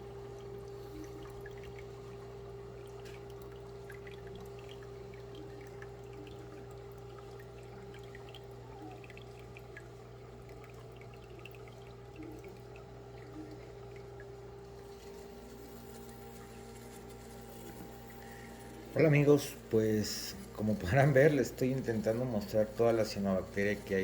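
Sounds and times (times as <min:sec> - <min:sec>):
aquarium water trickling and dripping: 0:00.0 - 0:24.0
pump hum: 0:00.0 - 0:24.0.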